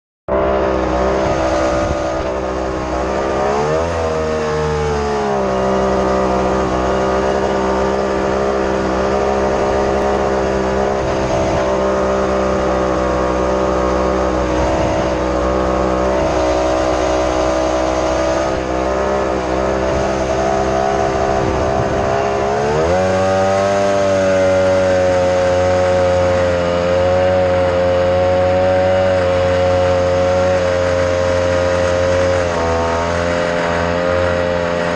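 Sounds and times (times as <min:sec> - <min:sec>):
jet boat engine revving: 0:00.3 - 0:34.9.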